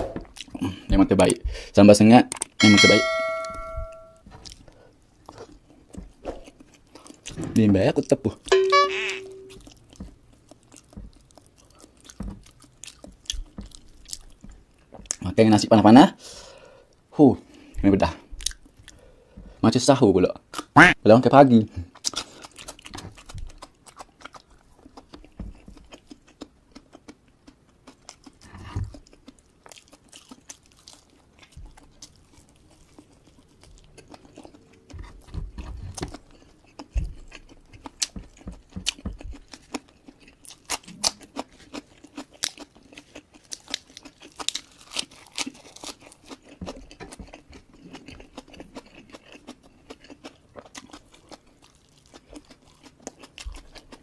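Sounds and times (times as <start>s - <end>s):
crunchy chewing with wet mouth clicks: 0.0s - 1.4s, 4.2s - 7.4s, 9.4s - 15.4s, 18.4s - 19.0s, 21.8s - 54.0s.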